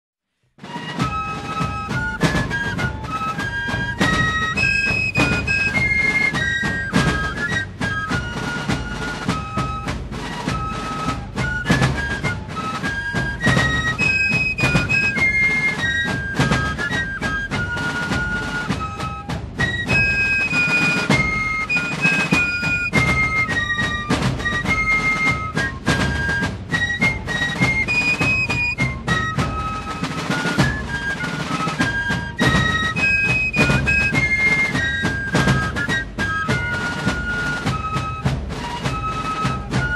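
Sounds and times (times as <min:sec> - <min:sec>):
drums and drum rolls: 0:00.6 - 0:39.9
flute melody: 0:00.6 - 0:39.9.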